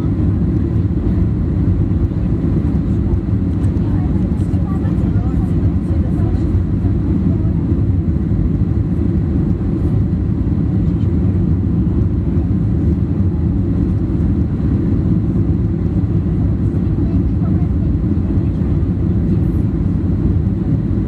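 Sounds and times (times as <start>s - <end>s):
jet cabin engine rumble: 0.0s - 21.0s.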